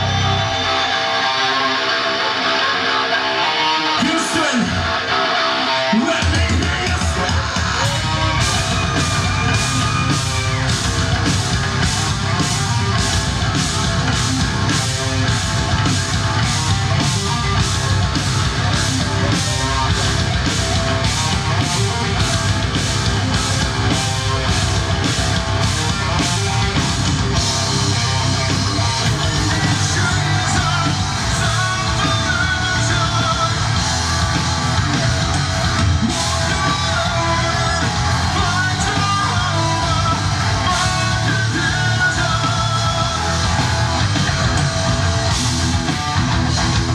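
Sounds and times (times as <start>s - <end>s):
bass guitar: 0.0s - 46.9s
distorted electric guitar: 0.0s - 46.9s
drums striking a steady beat: 6.0s - 46.9s.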